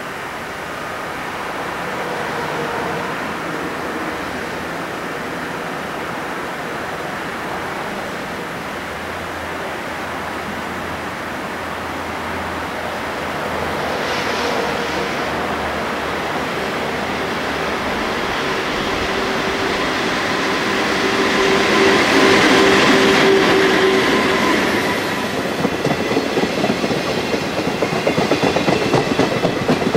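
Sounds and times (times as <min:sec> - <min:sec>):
low hum of train: 0:00.0 - 0:29.9
train running noise: 0:00.0 - 0:29.9.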